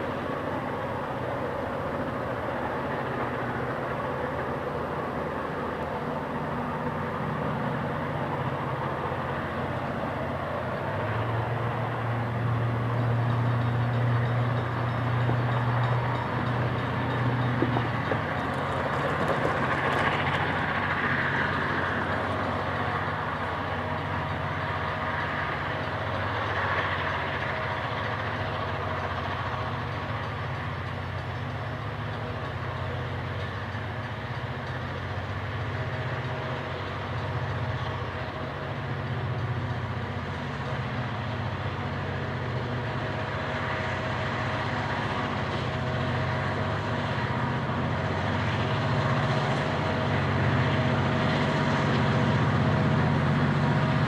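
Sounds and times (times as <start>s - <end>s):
diesel locomotive engine drone: 0.0s - 54.0s
rolling rail noise: 0.0s - 54.0s.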